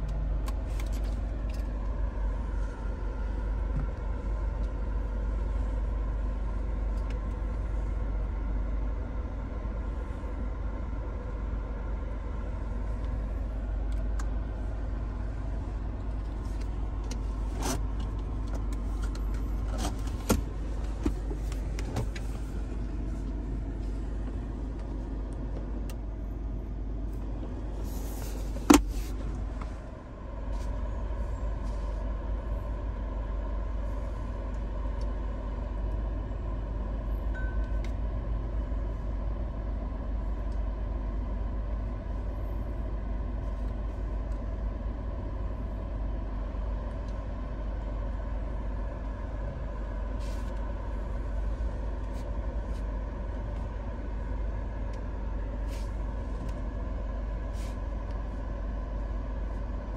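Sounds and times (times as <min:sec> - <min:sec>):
car engine idling hum: 0:00.0 - 0:59.9.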